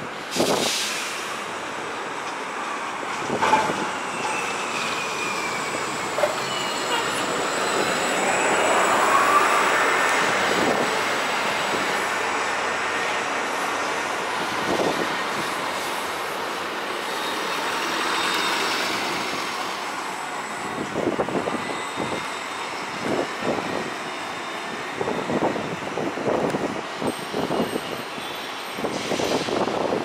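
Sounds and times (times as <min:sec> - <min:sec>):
bursts of street noise: 0:00.0 - 0:30.0
bus driving past: 0:00.0 - 0:30.0.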